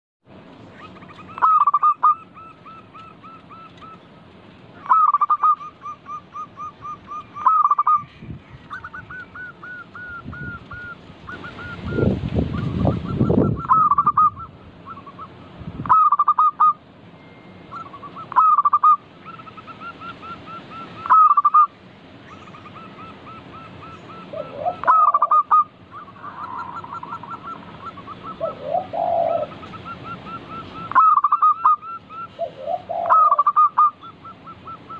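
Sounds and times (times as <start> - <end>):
dove cooing: 0.8 - 4.1, 4.8 - 16.8, 17.7 - 21.7, 22.3 - 34.9.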